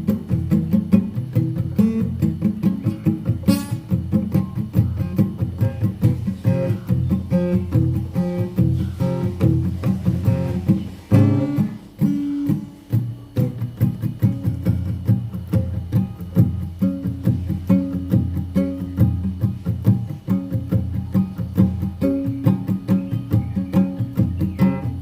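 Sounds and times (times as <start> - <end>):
acoustic guitar picking: 0.0 - 25.0.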